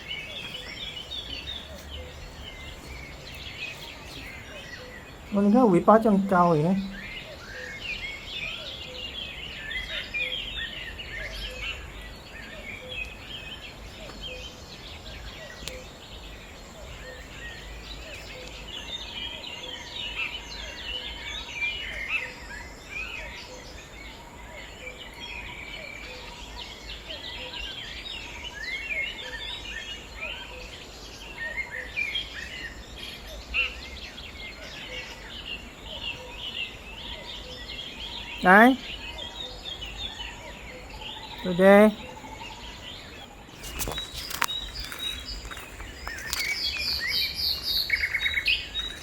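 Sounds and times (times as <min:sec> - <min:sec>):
many birds chirping: 0:00.0 - 0:49.0.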